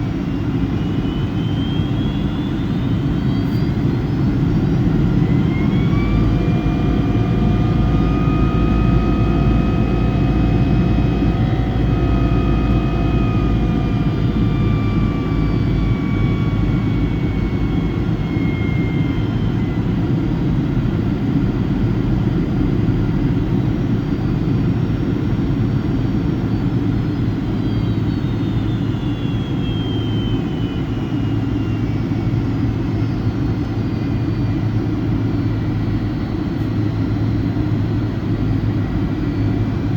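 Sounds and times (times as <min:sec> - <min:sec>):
jet engine whine: 0:00.0 - 0:39.9
jet engines roaring from cabin: 0:00.0 - 0:39.9.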